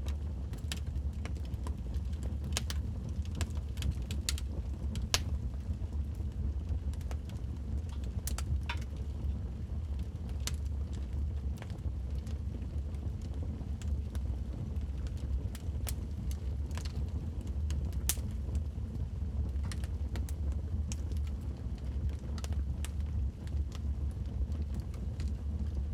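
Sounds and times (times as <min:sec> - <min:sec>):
fire flames rumbling: 0:00.0 - 0:25.9
logs crackling and popping: 0:00.0 - 0:25.9.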